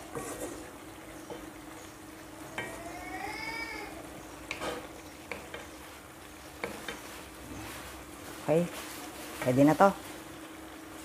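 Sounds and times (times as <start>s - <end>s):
spatula stirring food in sauce: 0.0s - 9.4s
light sizzling: 0.0s - 11.0s.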